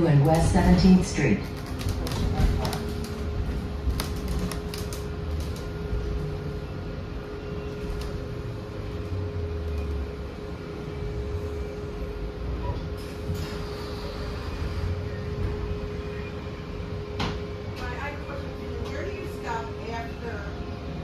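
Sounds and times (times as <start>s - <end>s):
bus engine low rumble: 0.0s - 21.0s
constant mid-pitched whine: 0.0s - 21.0s.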